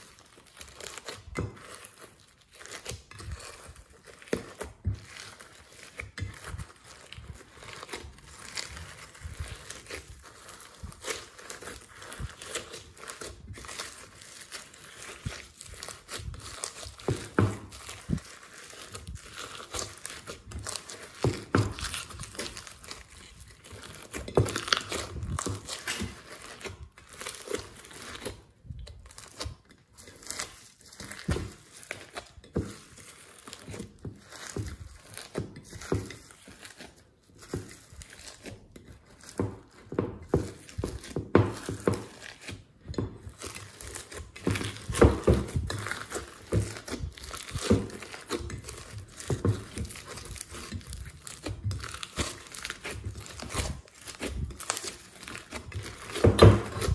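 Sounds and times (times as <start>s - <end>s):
slime clicking and crackling: 0.0s - 56.9s.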